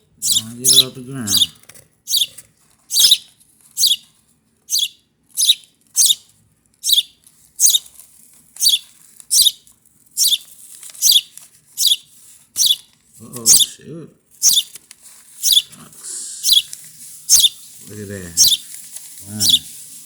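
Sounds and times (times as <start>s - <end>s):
baby birds chirping: 0.1s - 13.8s, 14.4s - 19.8s.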